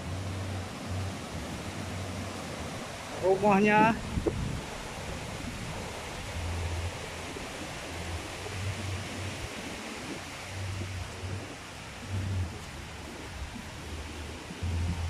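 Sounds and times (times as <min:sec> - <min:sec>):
rocky river rushing: 0:00.0 - 0:15.0
wind rumble on microphone: 0:00.0 - 0:15.0.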